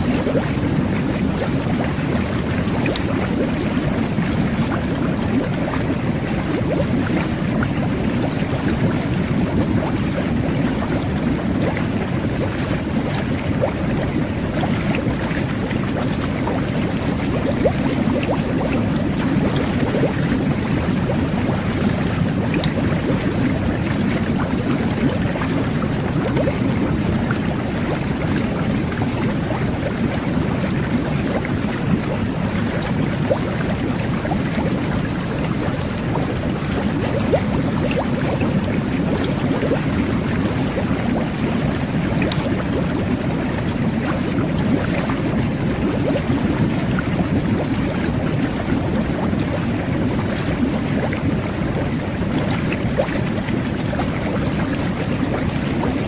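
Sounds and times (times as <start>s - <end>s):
whirlpool bath water bubbling: 0.0s - 56.0s.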